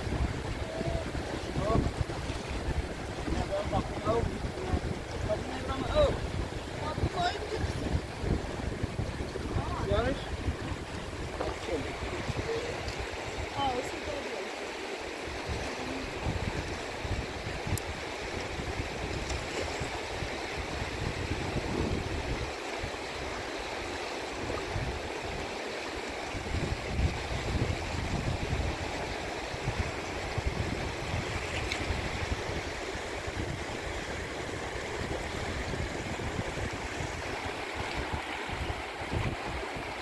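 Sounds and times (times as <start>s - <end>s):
water rushing: 0.0s - 40.0s
wind rumbling on microphone: 0.0s - 40.0s.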